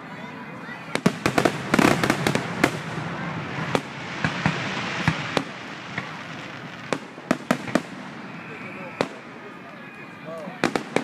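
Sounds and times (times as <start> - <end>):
steady background hiss: 0.4 - 11.0
fireworks bangs: 0.8 - 11.0.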